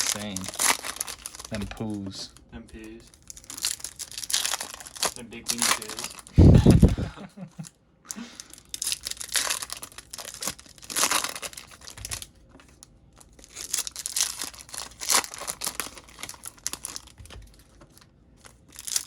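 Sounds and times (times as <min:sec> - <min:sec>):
card wrappers tearing and crinkling: 0:00.0 - 0:02.0, 0:02.8 - 0:07.0, 0:08.4 - 0:19.0.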